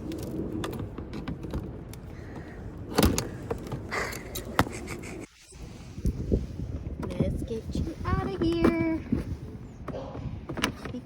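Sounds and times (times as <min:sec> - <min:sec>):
low handling rumble: 0:00.0 - 0:11.0.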